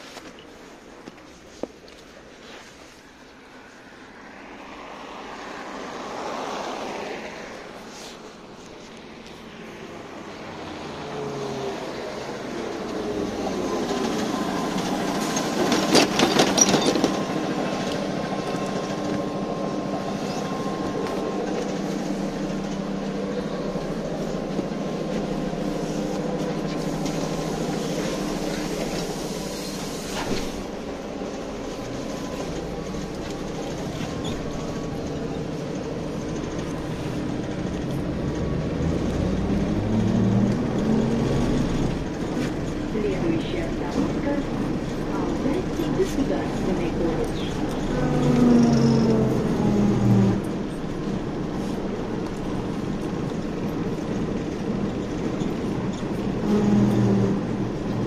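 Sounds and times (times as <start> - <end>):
electric trolleybus hum: 0.0 - 58.0.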